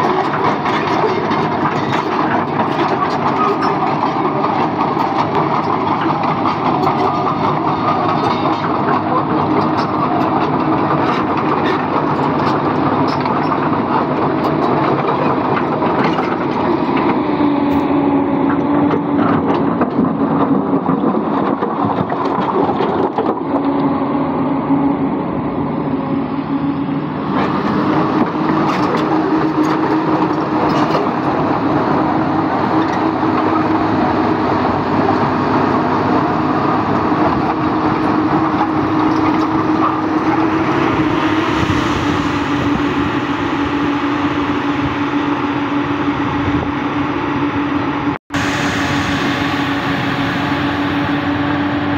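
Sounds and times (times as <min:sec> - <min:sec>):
excavator diesel engine running: 0:00.0 - 0:51.9
hydraulic whine: 0:00.0 - 0:51.9.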